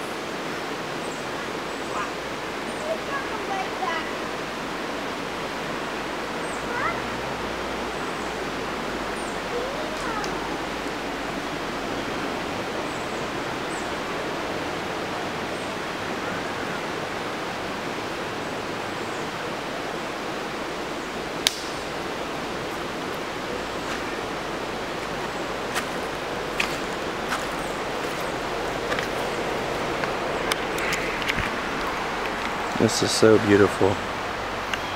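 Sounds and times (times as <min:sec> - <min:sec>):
river water running over rocks: 0:00.0 - 0:34.9.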